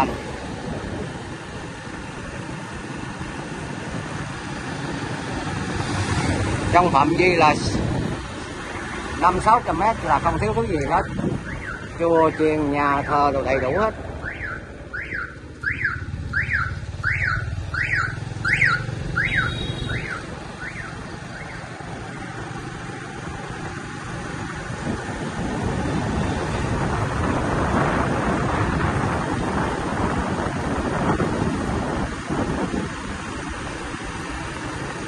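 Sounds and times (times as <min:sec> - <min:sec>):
road and wind noise: 0:00.0 - 0:35.0
vehicle hum: 0:00.0 - 0:35.0.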